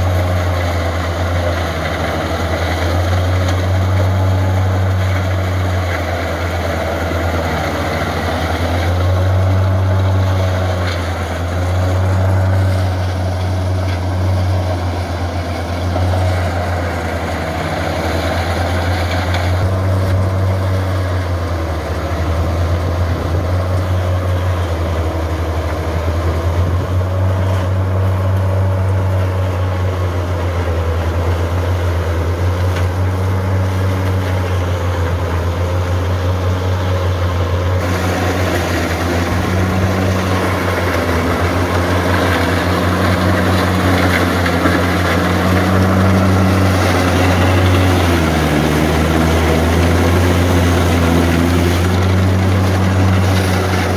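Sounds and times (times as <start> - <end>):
forage chopper whirring: 0.0 - 53.9
tractor diesel engine hum: 0.0 - 53.9.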